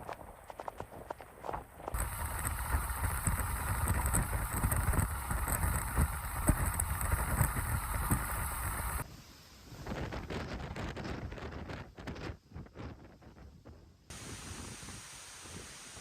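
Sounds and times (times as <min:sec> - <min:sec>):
wind buffeting microphone: 0:00.0 - 0:09.1, 0:09.7 - 0:15.0
rushing wind and rain: 0:00.1 - 0:13.4, 0:14.1 - 0:16.0.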